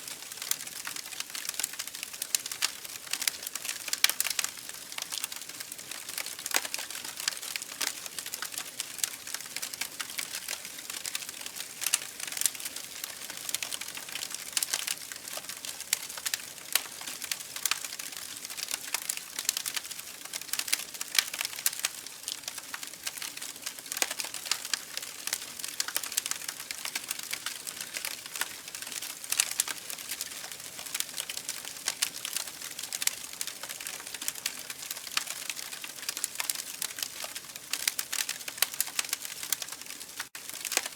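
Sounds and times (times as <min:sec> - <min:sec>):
campfire crackling: 0:00.1 - 0:40.9.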